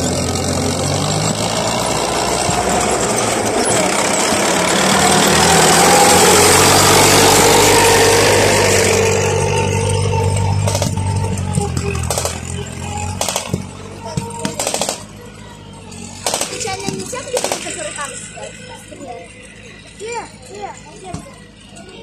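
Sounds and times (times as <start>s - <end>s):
tracked vehicle driving past: 0.0s - 22.0s.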